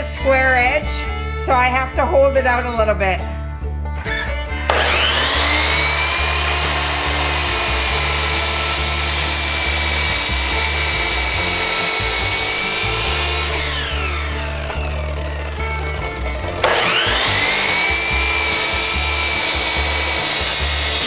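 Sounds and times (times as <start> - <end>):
miter saw whining: 4.1 - 21.0
saw cutting wood: 4.1 - 21.0.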